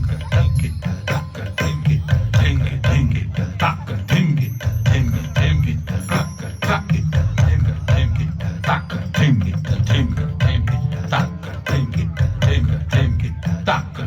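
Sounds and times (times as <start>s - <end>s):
rapid percussion strikes: 0.0s - 14.0s.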